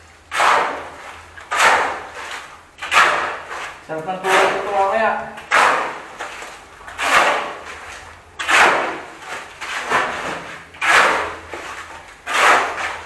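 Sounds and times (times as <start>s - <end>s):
shovel scraping wet concrete: 0.3s - 13.0s.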